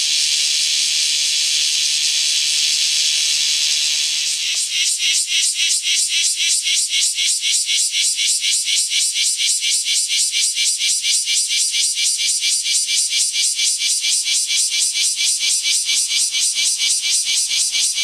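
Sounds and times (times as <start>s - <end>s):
cicada pulsing song: 0.0s - 18.0s.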